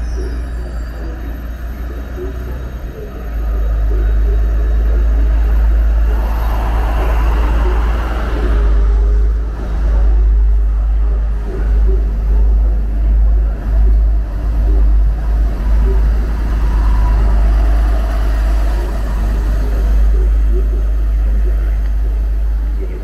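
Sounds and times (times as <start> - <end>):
faint whining tones: 0.0 - 23.0.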